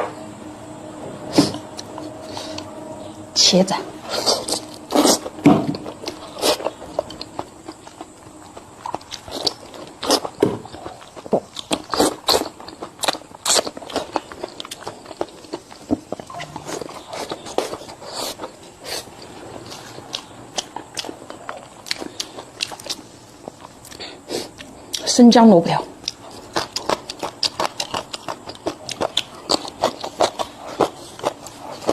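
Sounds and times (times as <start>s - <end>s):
person chewing crunchy food: 4.0s - 25.1s, 26.0s - 31.9s.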